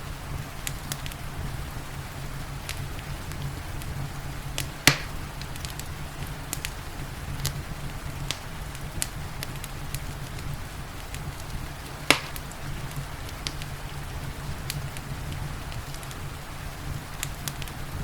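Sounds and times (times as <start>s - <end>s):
rain hissing: 0.0s - 18.0s
wood fire crackling: 0.0s - 18.0s.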